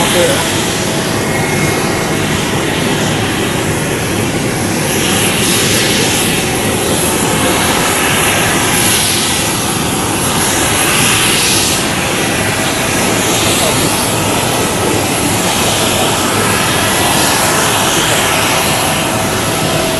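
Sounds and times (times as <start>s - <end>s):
jet engines roaring: 0.0s - 19.9s.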